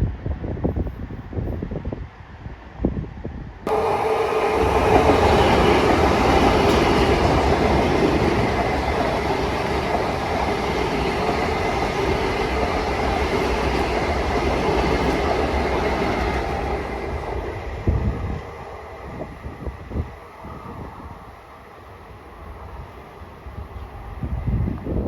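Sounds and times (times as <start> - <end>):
train wheels rushing on rail: 3.3 - 25.0.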